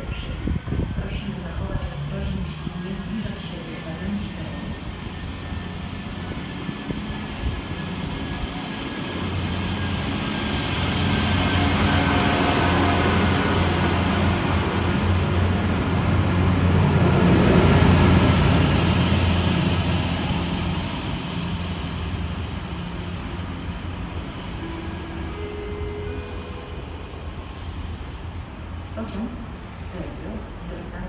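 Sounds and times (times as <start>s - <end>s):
diesel train passing: 0.0s - 31.0s.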